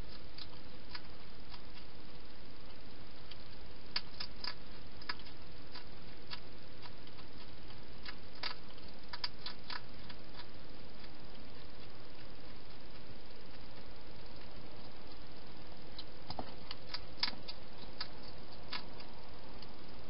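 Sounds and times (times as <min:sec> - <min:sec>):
hedgehog eating clicks: 0:00.0 - 0:20.0
steady background hiss: 0:00.0 - 0:20.0.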